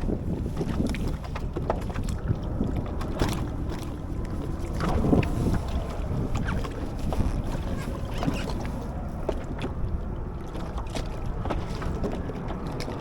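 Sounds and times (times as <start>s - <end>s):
water splashing against hull: 0.0s - 13.0s
wind rumbling on microphone: 0.0s - 13.0s.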